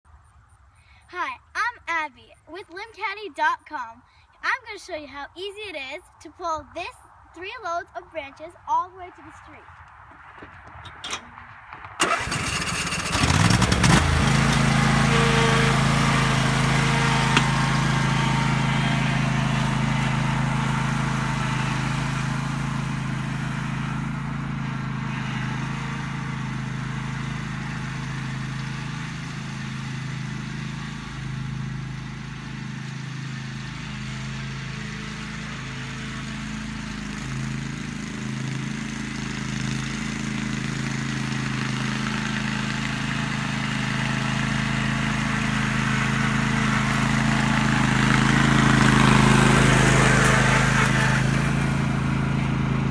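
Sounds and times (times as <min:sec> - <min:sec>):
lawn tractor engine running: 0:07.5 - 0:52.9.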